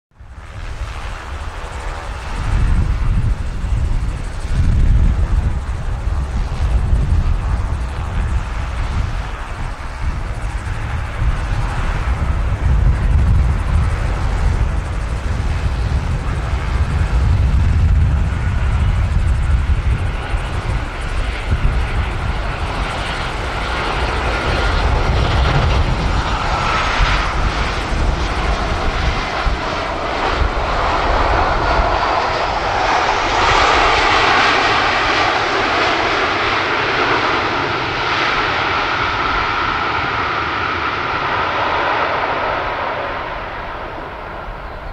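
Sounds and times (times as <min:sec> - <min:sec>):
jet engines rumbling and whining: 0:00.1 - 0:44.9.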